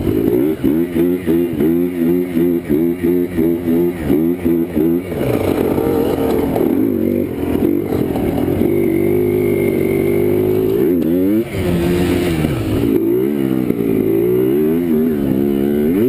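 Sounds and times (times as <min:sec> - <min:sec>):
two-stroke quad engine revving: 0:00.0 - 0:16.0.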